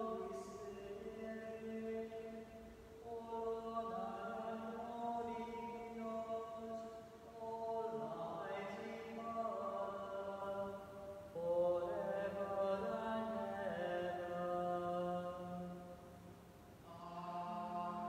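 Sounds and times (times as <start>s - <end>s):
voices singing liturgical chant: 0.0s - 16.0s, 16.8s - 18.0s.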